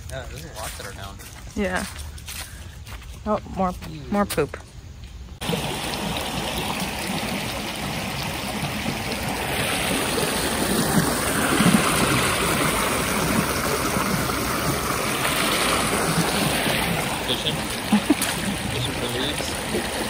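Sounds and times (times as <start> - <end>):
creek running over rocks: 0.0 - 2.4, 5.4 - 20.0.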